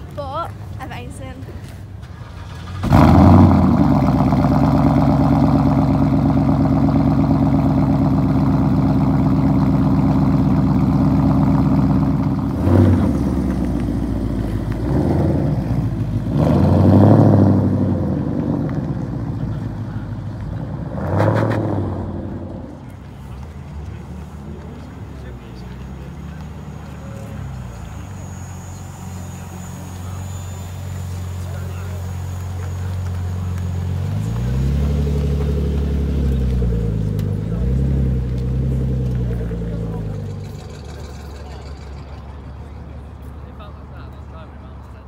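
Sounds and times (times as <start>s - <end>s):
sports car engine running: 0.9s - 43.3s
engine revving: 2.2s - 23.0s, 25.5s - 42.4s.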